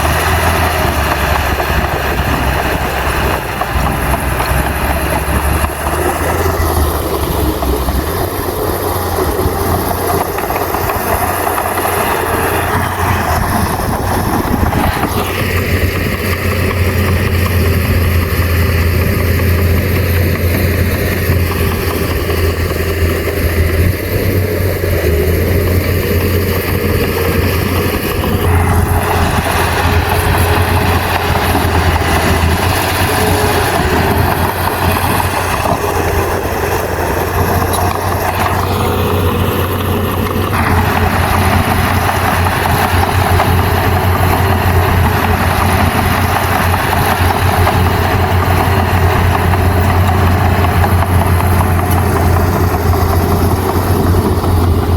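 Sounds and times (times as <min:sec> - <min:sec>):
bulldozer diesel engine humming: 0:00.0 - 0:54.9
rough engine noise under load: 0:00.0 - 0:54.9.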